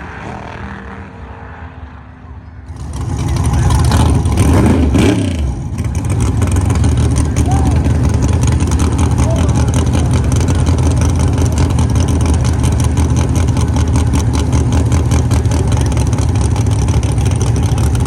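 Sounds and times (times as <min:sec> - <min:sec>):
race car engine running: 0:02.7 - 0:18.0.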